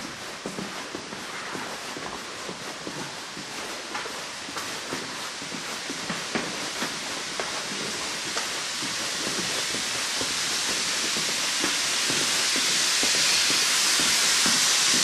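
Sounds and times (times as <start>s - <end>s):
footsteps walking: 0.0s - 15.0s
steady hiss: 0.0s - 15.0s.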